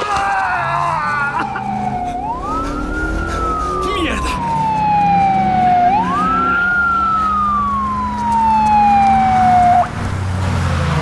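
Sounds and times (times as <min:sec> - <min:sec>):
police siren wailing: 0:00.0 - 0:10.0.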